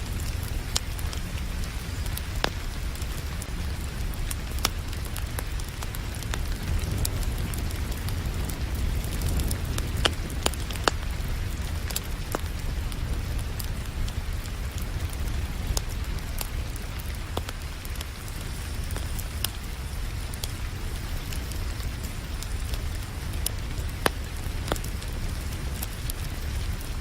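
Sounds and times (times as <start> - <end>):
low constant rumble: 0.0 - 27.0
rain falling: 0.0 - 27.0
wood fire crackling: 0.0 - 27.0.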